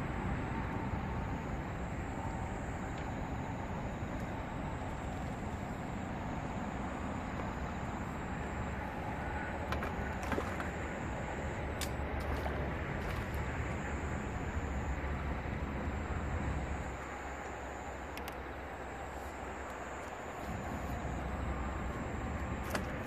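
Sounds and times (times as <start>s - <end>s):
distant traffic rumble: 0.0s - 23.0s
faint high whine: 0.0s - 23.0s.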